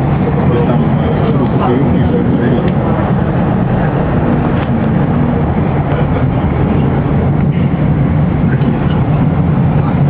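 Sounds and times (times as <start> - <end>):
train running noise inside carriage: 0.0 - 10.0.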